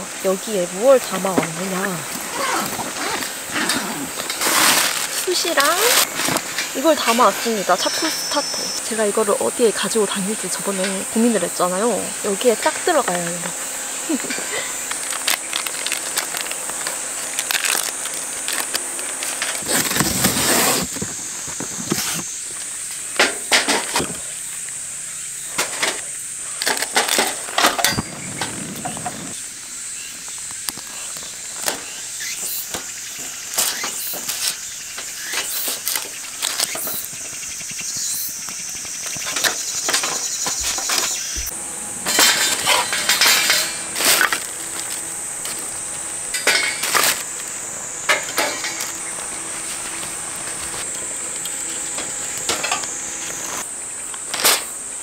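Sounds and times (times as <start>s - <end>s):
insects droning high-pitched: 0.0s - 55.0s.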